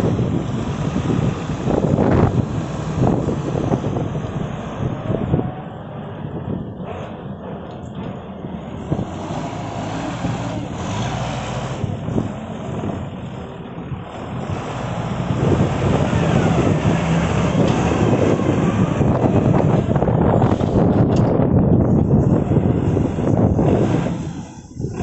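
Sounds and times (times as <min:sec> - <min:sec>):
forklift diesel engine running: 0:00.0 - 0:25.0.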